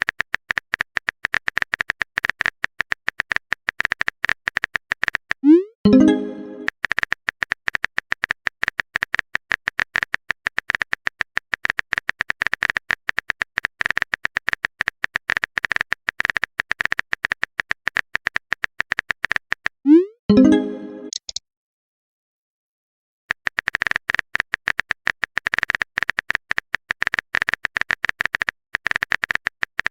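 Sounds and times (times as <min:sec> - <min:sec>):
phone keyboard typing taps: 0:00.0 - 0:19.8, 0:21.1 - 0:21.4, 0:23.3 - 0:29.9.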